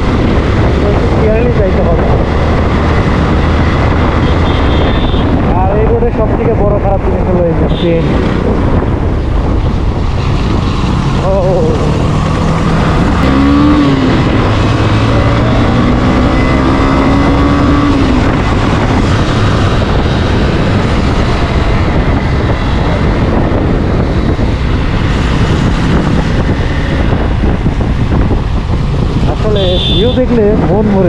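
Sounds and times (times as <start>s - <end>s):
motorcycle engine: 0.0s - 6.0s, 7.8s - 31.0s
wind and road noise: 0.0s - 31.0s.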